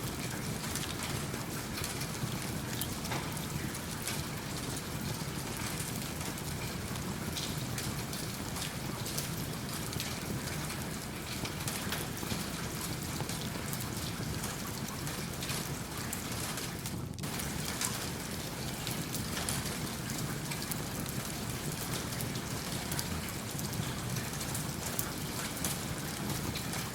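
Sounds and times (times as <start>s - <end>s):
steady rain falling: 0.0s - 26.9s
wood fire crackling: 0.1s - 26.9s.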